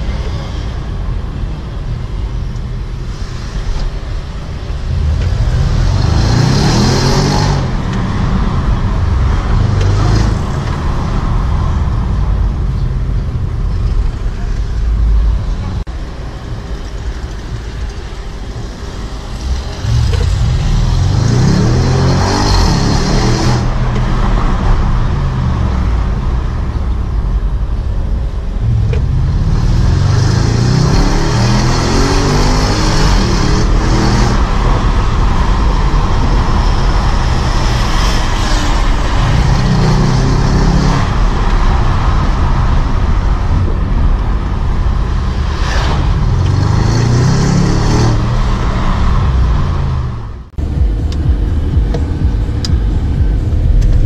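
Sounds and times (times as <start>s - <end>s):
car engine accelerating: 4.5s - 15.9s, 16.9s - 54.0s.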